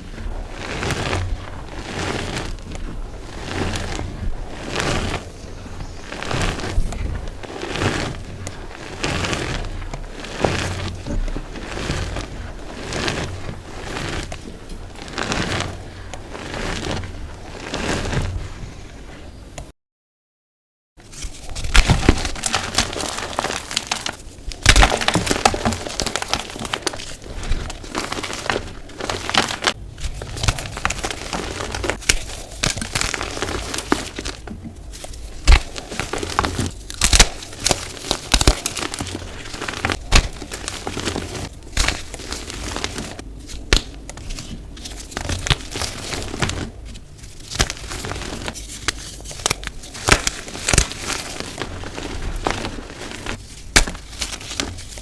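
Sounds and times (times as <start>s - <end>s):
chalk crunching and cracking: 0.0s - 18.8s, 21.0s - 55.0s.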